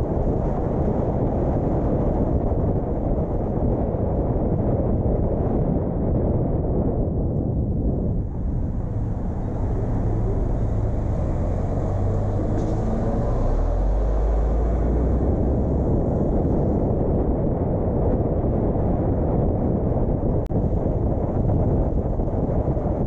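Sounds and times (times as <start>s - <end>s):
road noise: 0.0s - 4.6s, 7.2s - 23.0s
car engine rumble: 0.0s - 23.0s.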